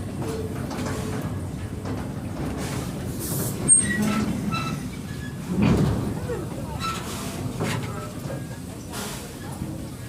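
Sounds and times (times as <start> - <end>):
train wagon rumbling on track: 0.0 - 10.0.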